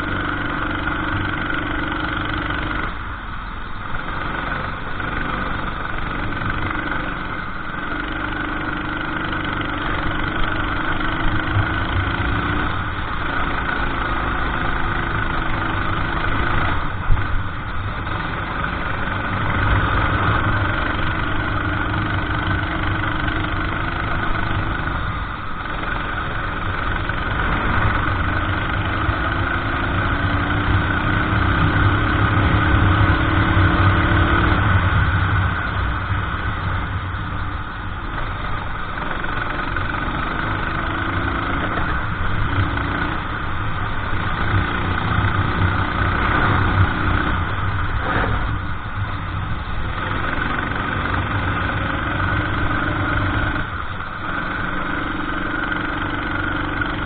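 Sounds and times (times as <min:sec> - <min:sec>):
racing kart engine revving: 0:00.0 - 0:03.0, 0:04.0 - 0:57.0.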